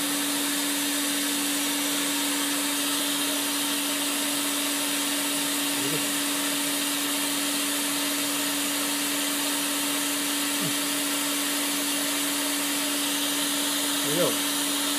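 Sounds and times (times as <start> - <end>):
cleaning machine humming: 0.0 - 14.9.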